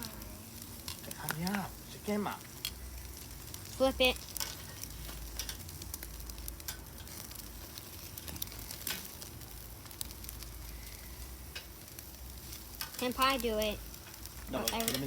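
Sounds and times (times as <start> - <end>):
fat popping and crackling: 0.0 - 15.0
meat sizzling on a grill: 0.0 - 15.0.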